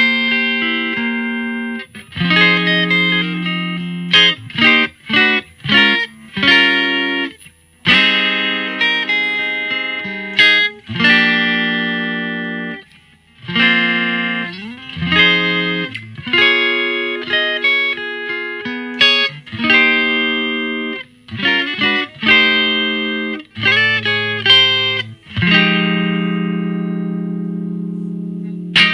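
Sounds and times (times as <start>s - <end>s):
clean electric guitar: 0.0s - 28.9s.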